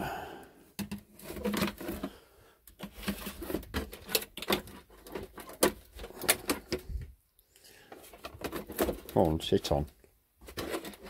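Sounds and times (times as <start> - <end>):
plastic parts clicking and knocking: 0.7 - 7.2, 7.9 - 11.0.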